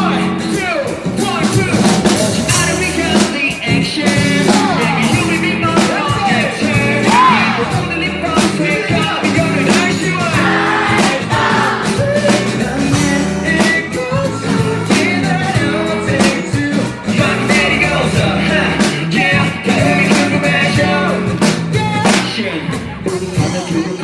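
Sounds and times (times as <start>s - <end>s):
drums keeping a steady beat: 0.0s - 24.0s
live rock band playing: 0.0s - 24.0s
person singing: 0.0s - 24.0s.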